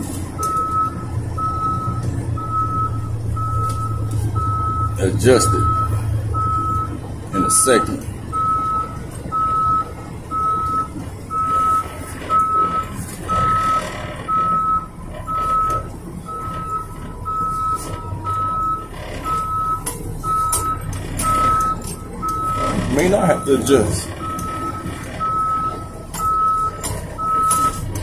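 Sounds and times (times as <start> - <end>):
truck engine running low: 0.0 - 28.0
truck reversing alarm beeping: 0.0 - 28.0.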